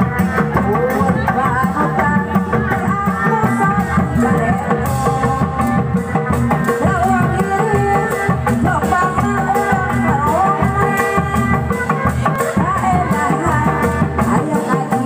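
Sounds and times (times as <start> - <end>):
fast dense drumming: 0.0 - 15.0.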